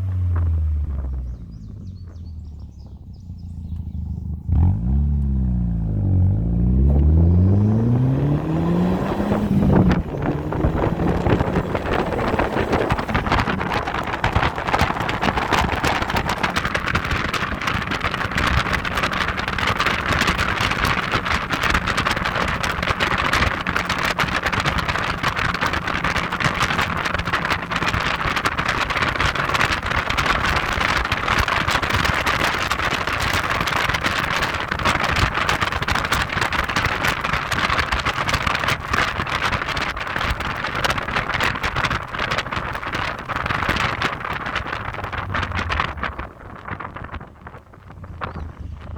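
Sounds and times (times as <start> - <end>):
car driving road noise: 0.0 - 48.9
wind buffeting microphone: 0.0 - 48.9.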